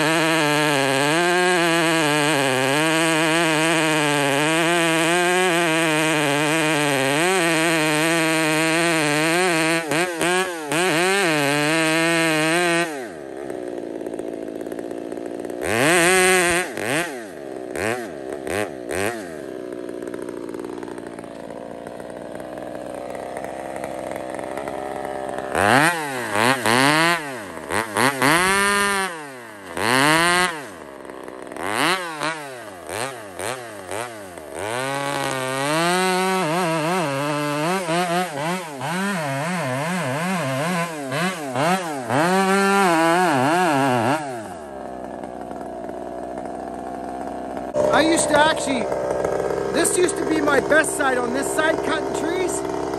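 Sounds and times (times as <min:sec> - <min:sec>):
chainsaw cutting tree trunk: 0:00.0 - 0:52.9.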